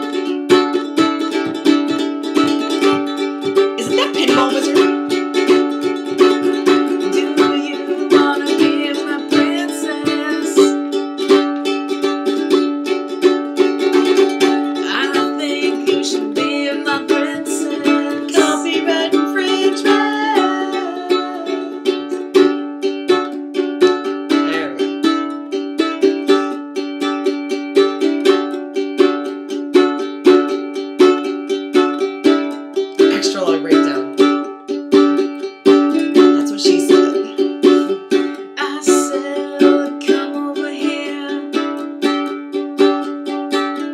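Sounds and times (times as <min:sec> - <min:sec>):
ukulele strumming: 0:00.0 - 0:43.9.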